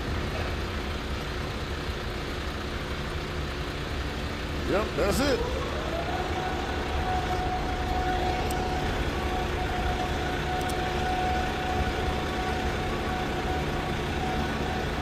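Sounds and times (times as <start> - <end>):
crane machinery rumble: 0.0 - 15.0
machinery whine: 0.0 - 15.0.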